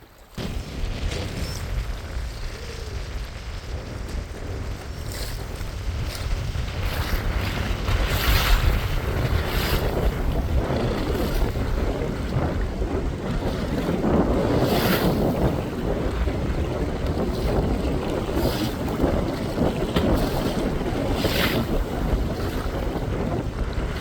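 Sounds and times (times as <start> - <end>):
water around boat: 0.0 - 24.0
wind buffeting microphone: 0.0 - 24.0.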